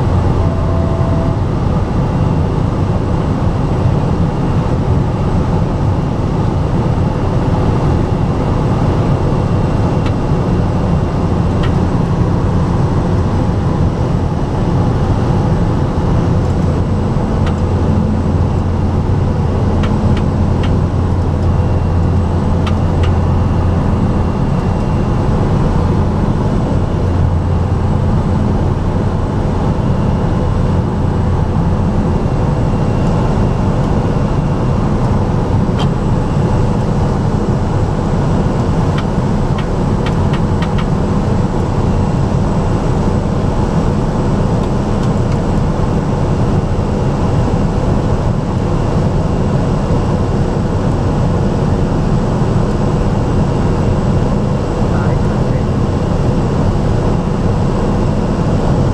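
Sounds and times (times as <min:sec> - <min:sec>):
light aircraft engine drone: 0:00.0 - 0:58.9.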